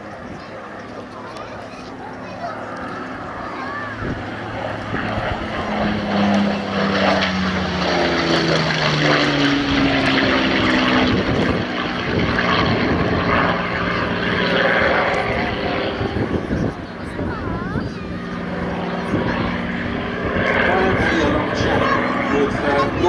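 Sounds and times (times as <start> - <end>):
propeller aircraft engine flypast: 0.0 - 23.0.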